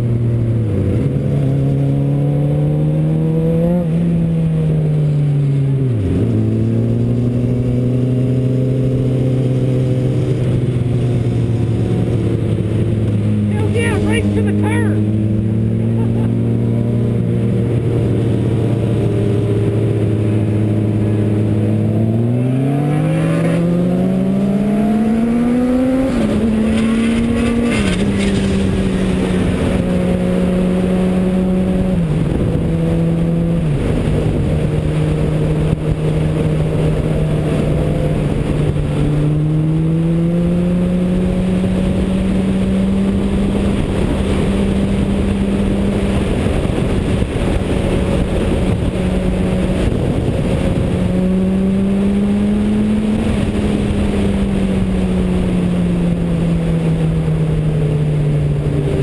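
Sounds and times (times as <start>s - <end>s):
car engine revving: 0.0s - 59.0s
road noise: 0.0s - 59.0s.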